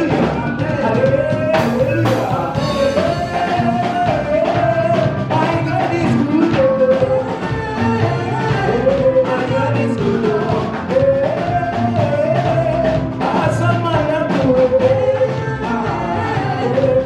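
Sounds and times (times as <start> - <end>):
band with bass and drums: 0.0 - 17.0
person singing: 0.0 - 17.0.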